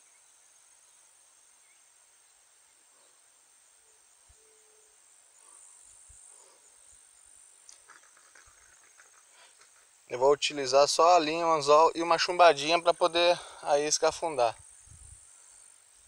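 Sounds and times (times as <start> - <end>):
crickets and insects chirring: 0.0 - 16.0.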